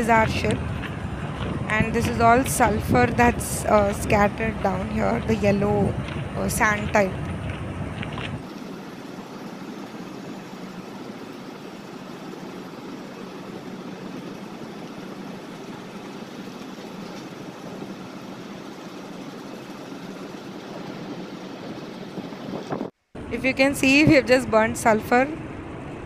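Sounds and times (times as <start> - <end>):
heavy machinery drone: 0.0 - 26.0.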